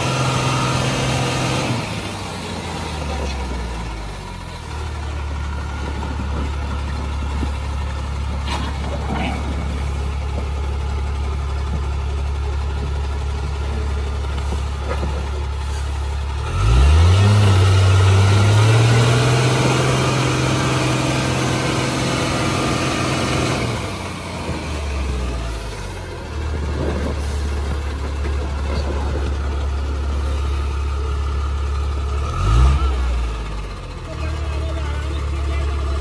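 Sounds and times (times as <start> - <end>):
diesel truck engine revving: 0.0 - 36.0.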